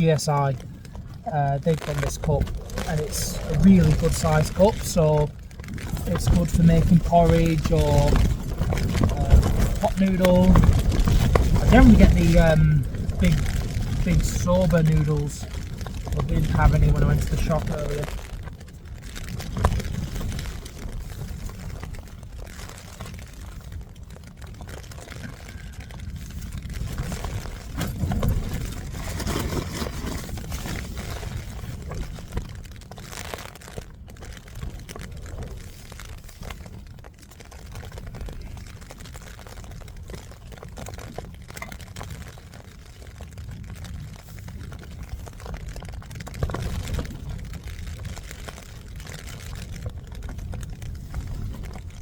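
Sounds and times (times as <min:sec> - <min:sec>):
plastic bag rustling: 0:00.0 - 0:52.0
storm wind gusting against tent: 0:00.0 - 0:52.0.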